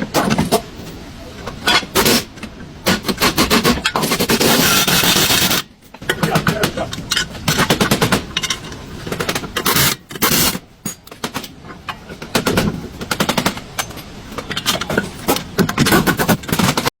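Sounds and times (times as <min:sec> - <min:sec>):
rapid knocking of repair tools: 0:02.8 - 0:16.9.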